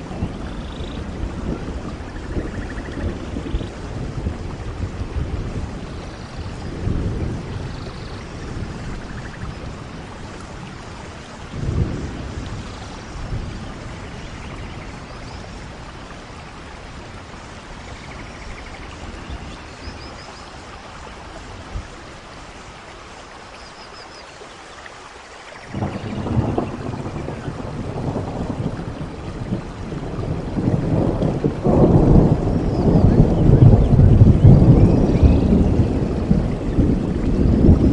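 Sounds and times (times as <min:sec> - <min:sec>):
thunder rumbling: 0:00.0 - 0:22.8, 0:25.7 - 0:37.9
steady rain: 0:00.0 - 0:37.9.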